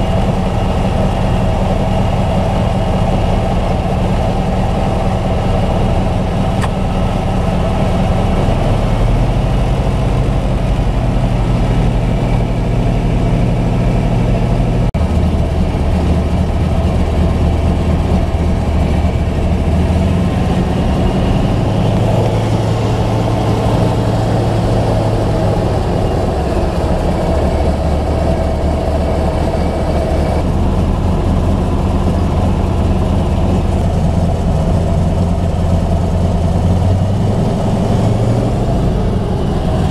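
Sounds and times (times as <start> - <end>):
plane radial engine and propeller: 0.0 - 39.9.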